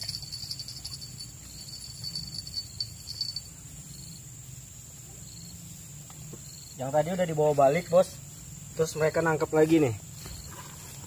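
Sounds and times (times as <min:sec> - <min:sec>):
insects buzzing high-pitched: 0:00.0 - 0:11.0
rapid pulsed insect chirping: 0:00.0 - 0:11.0.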